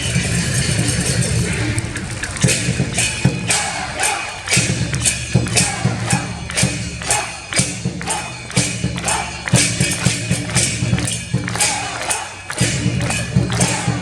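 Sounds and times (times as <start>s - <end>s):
festival drum beats: 0.0s - 14.0s.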